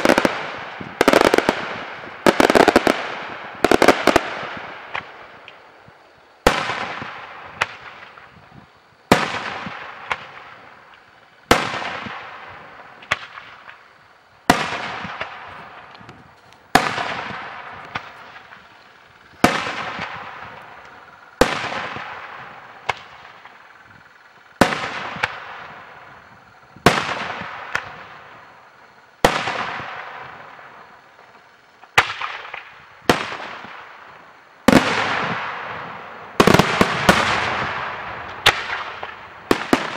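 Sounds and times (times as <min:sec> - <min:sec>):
fireworks bangs: 0:00.0 - 0:28.6, 0:29.2 - 0:39.9.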